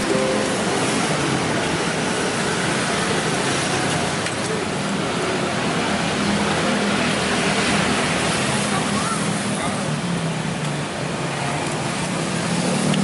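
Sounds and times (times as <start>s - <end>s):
traffic rush: 0.0s - 13.0s.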